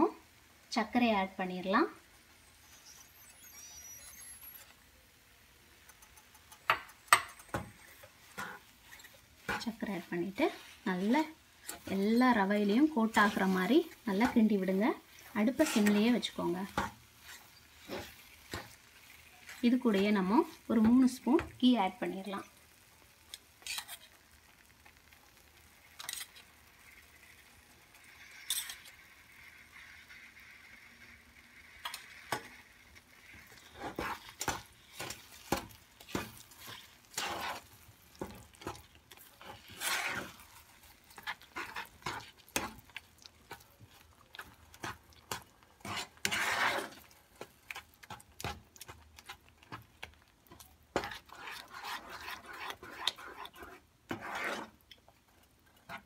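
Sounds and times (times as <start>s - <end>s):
ghee sizzling: 0.0s - 56.0s
wooden spoon stirring and scraping pan: 0.1s - 4.8s, 5.7s - 56.0s.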